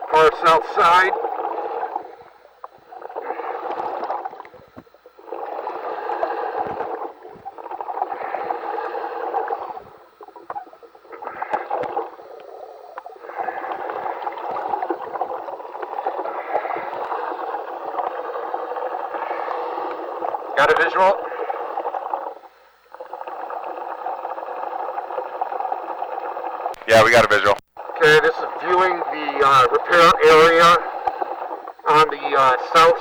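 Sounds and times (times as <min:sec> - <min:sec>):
gurgling breaths over radio: 0:00.0 - 0:33.0.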